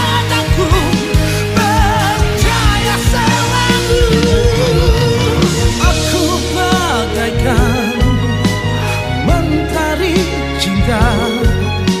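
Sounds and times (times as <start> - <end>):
person singing: 0.0 - 12.0
slow rock band playing: 0.0 - 12.0.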